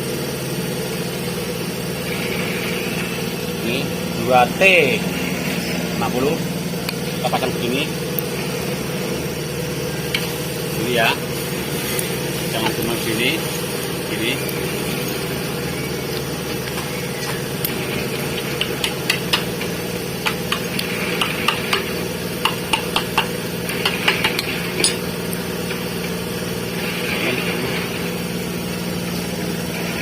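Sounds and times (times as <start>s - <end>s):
steady engine-like hum: 0.0s - 30.0s.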